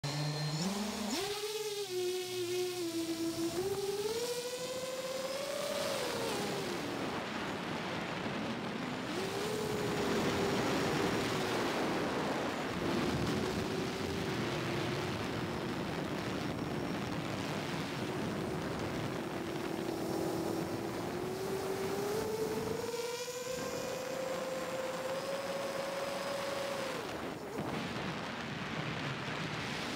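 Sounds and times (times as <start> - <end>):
drone motors whining: 0.0 - 29.5
propeller wash and wind: 0.0 - 29.9.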